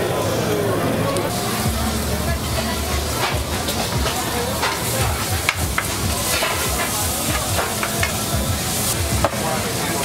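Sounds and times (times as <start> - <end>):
food sizzling: 1.2 - 10.0.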